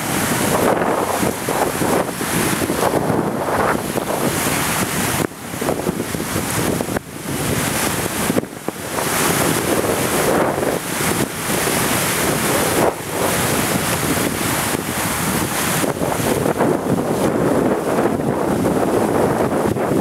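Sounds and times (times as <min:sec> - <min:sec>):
churning propeller wash: 0:00.0 - 0:20.0
wind buffeting microphone: 0:00.0 - 0:20.0.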